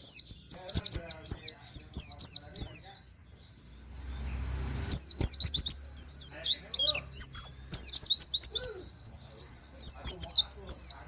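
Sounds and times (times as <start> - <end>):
bird singing whistled notes: 0.0 - 11.0.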